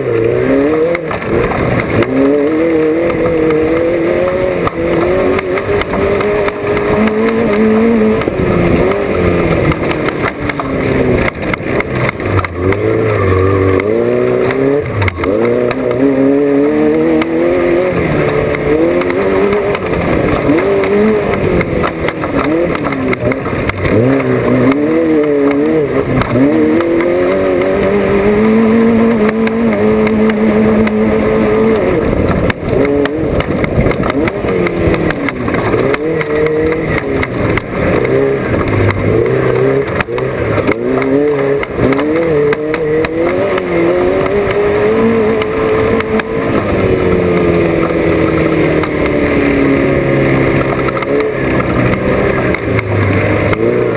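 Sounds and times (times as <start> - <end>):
race vehicle engine revving: 0.0 - 53.9.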